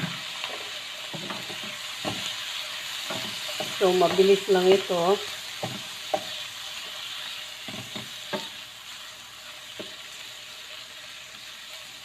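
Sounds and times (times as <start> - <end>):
shrimp sizzling in hot oil: 0.0 - 12.0.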